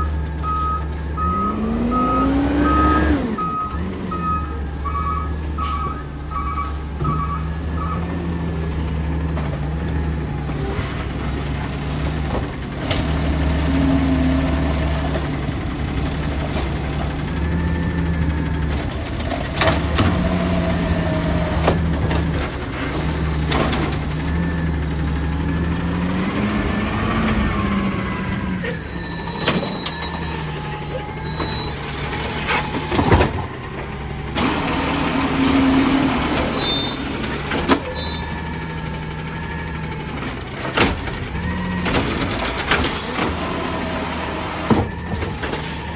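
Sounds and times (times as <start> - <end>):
garbage truck engine running: 0.0 - 45.9.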